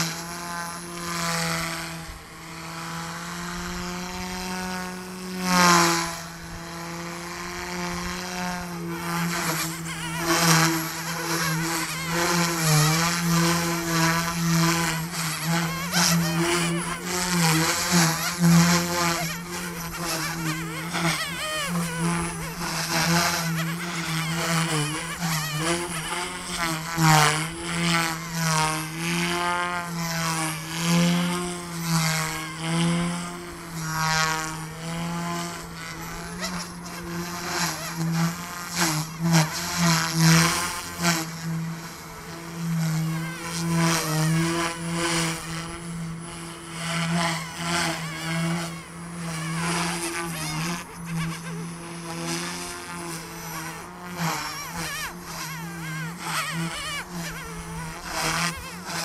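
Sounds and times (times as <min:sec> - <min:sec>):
rc helicopter rotor buzz: 0:00.0 - 0:59.0.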